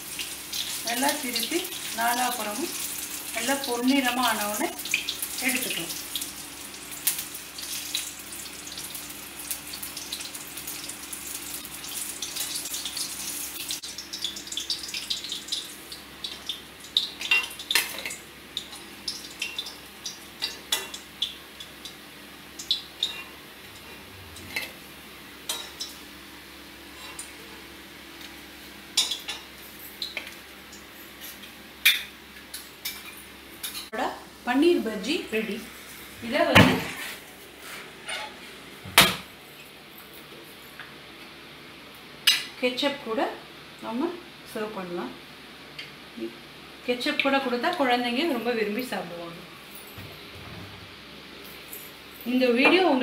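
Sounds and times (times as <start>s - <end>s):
deep-frying sizzle: 0.0s - 49.7s.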